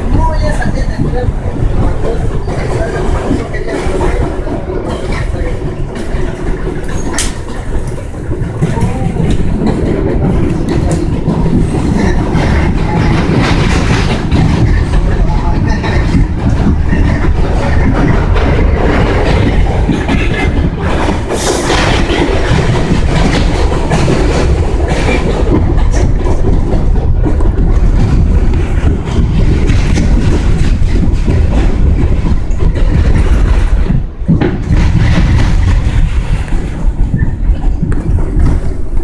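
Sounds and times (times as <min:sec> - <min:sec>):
subway train rumbling: 0:00.0 - 0:39.0
wheels clattering over rail joints: 0:00.0 - 0:39.0.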